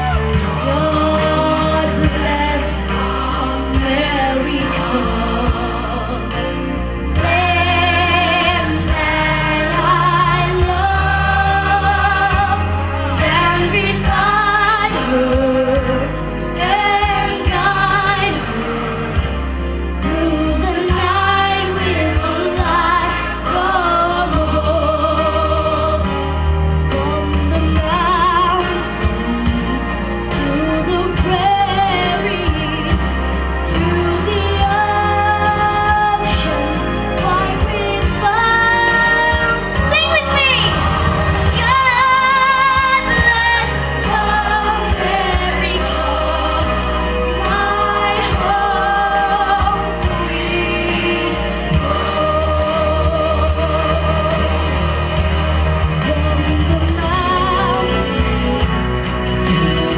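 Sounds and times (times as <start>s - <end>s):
recorded backing music: 0.0s - 59.9s.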